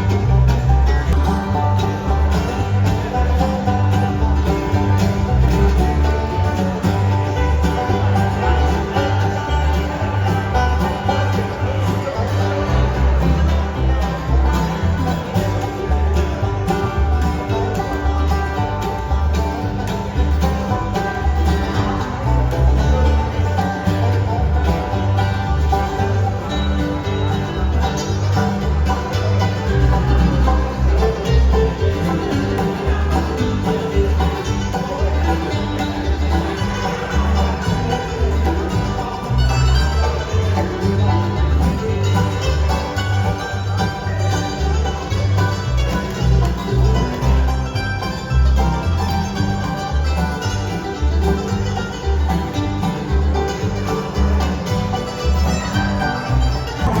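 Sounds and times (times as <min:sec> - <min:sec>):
banjo: 0:00.0 - 0:57.0
bluegrass band playing: 0:00.0 - 0:57.0
low bass notes: 0:00.0 - 0:57.0
plucked strings: 0:00.0 - 0:57.0.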